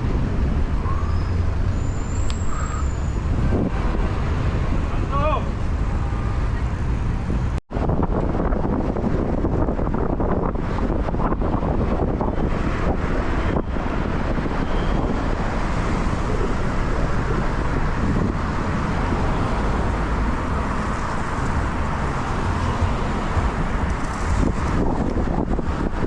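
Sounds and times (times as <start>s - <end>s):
road and traffic noise: 0.0s - 26.0s
wind on microphone: 0.0s - 26.0s.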